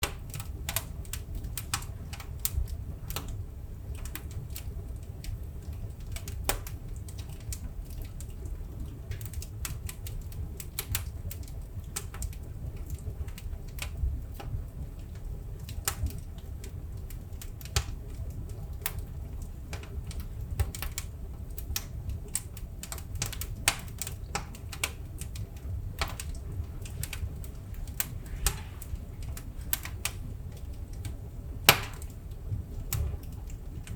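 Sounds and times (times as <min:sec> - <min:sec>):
fire crackling and popping: 0:00.0 - 0:33.9
low rumble of flames: 0:00.0 - 0:33.9.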